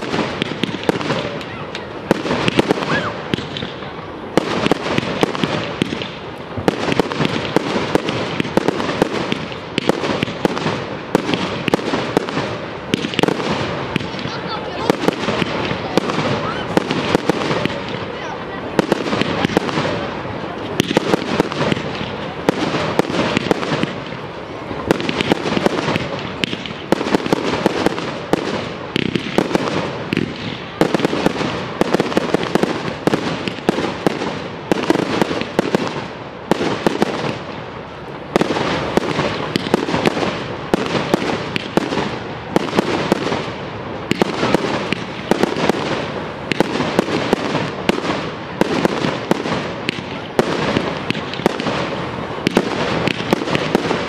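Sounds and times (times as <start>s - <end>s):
aerial fireworks bursting: 0.0s - 54.0s
fireworks crackling: 0.0s - 54.0s.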